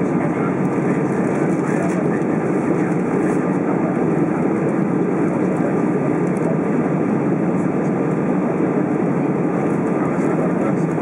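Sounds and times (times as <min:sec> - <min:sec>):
jet engines humming in cabin: 0:00.0 - 0:11.0.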